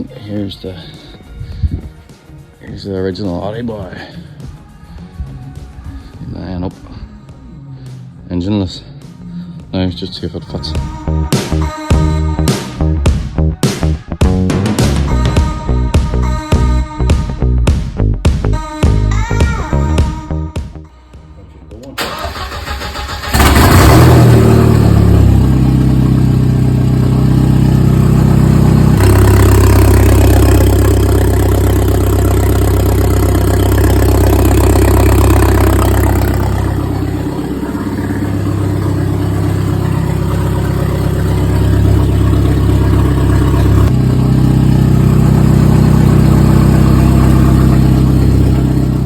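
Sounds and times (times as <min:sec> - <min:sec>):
car engine idling and revving: 0:04.3 - 0:49.0.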